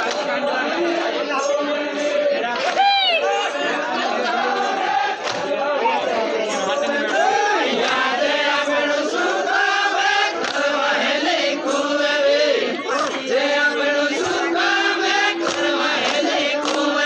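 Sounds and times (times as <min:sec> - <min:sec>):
men singing chant in chorus: 0:00.0 - 0:17.0.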